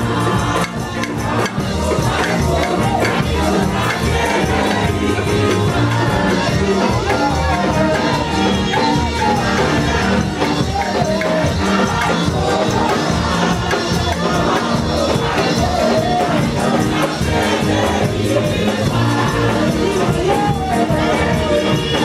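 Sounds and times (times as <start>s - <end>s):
congregation calling out: 0.0s - 22.0s
drums and tambourine: 0.0s - 22.0s
many voices singing: 0.0s - 22.0s.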